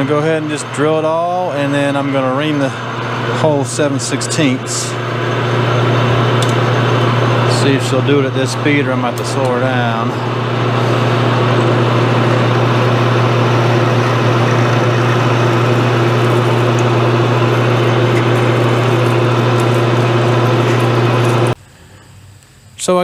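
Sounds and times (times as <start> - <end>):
drill cutting hiss: 0.0 - 21.6
lathe motor hum: 0.0 - 21.6.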